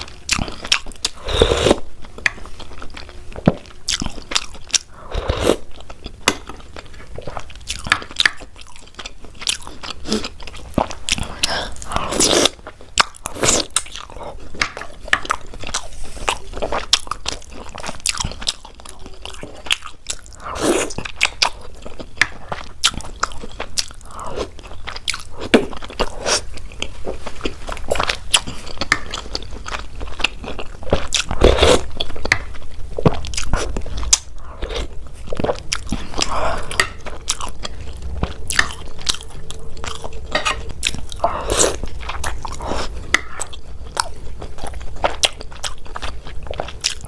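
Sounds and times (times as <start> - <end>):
person chewing sweets: 0.0 - 47.0.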